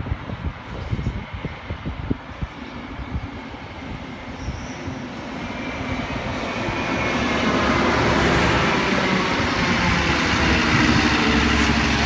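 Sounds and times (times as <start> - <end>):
diesel railcar passing: 0.0 - 12.0.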